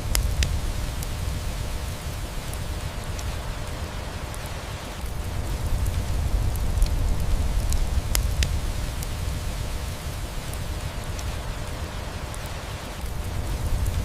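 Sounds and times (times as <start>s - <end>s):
rain hiss: 0.0s - 14.0s
wood fire crackling and popping: 0.0s - 14.0s.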